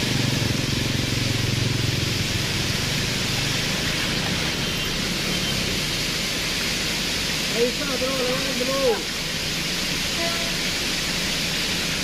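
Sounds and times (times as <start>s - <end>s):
vehicle engines passing slowly: 0.0s - 10.0s
heavy rain hissing: 0.0s - 12.0s.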